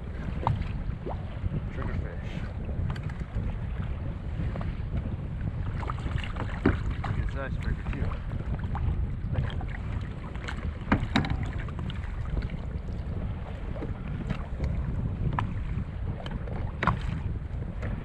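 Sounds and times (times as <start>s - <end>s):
water lapping at kayak: 0.0s - 18.0s
wind rumbling on microphone: 0.0s - 18.0s.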